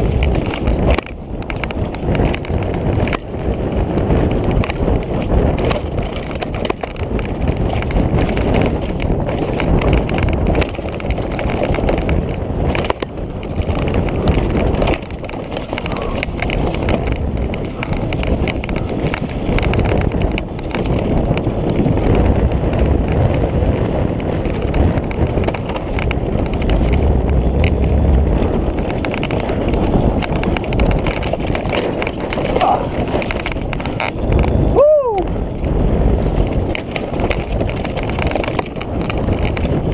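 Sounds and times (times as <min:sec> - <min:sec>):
tyres crunching over stones: 0:00.0 - 0:34.8
bike rattling over bumps: 0:00.0 - 0:39.9.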